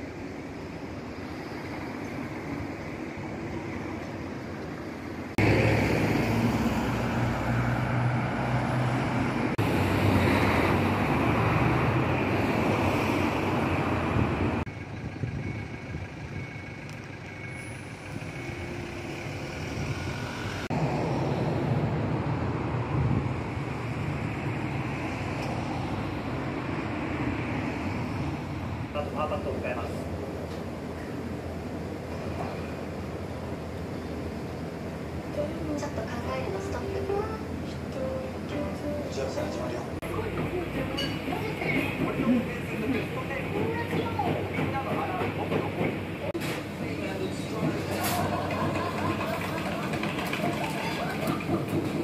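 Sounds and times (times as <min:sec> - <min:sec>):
passing cars and trucks: 0:00.0 - 0:52.0.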